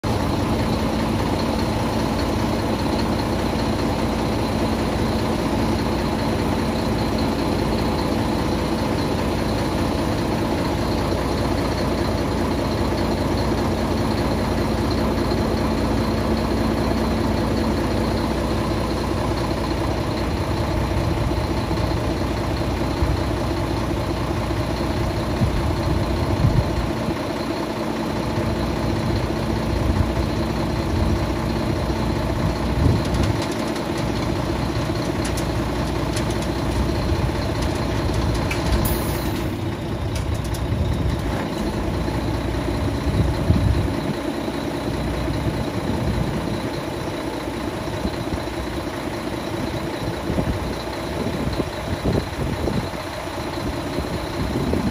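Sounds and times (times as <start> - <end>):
diesel truck engine idling: 0.0 - 54.9
hydraulics raising tipper body: 0.1 - 54.9.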